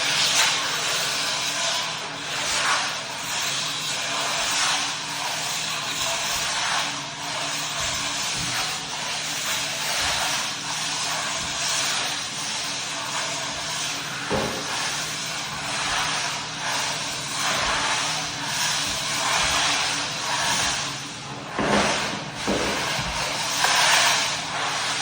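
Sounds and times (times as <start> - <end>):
buffer pad hissing on wood: 0.0 - 25.0
floor buffer motor humming: 0.0 - 25.0.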